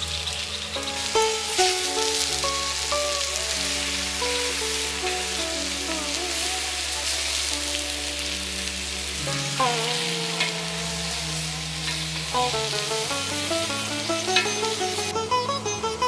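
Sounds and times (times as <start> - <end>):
mushrooms sizzling in oil: 0.0 - 15.4
instrumental music: 0.0 - 16.0.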